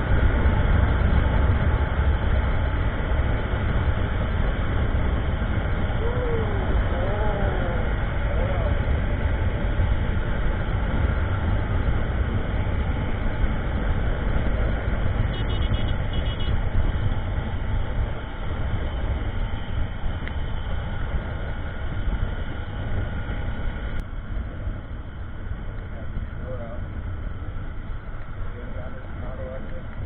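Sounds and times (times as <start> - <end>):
motorcycle engine running: 0.0 - 30.0
wind rushing on microphone: 0.0 - 30.0.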